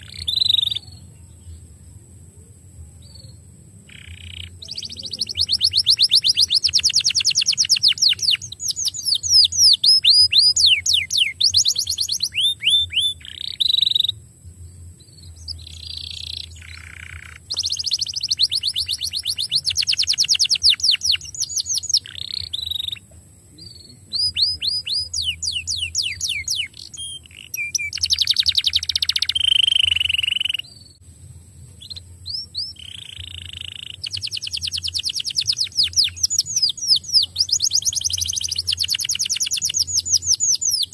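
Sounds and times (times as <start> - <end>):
canary singing trills: 0.0 - 1.7, 3.0 - 31.0, 31.7 - 40.9.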